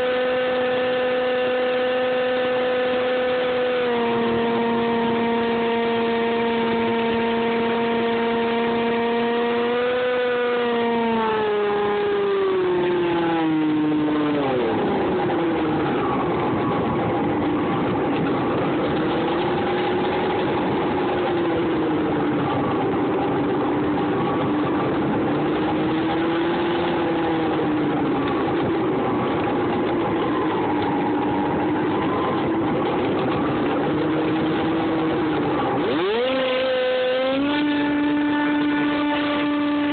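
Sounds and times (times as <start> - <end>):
model plane electric motor whine: 0.0 - 17.4, 18.2 - 28.8, 29.7 - 39.9.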